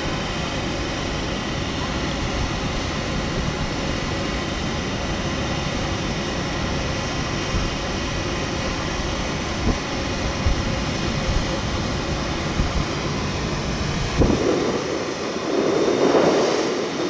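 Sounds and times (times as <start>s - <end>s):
locomotive cooling blowers rushing: 0.0s - 17.0s.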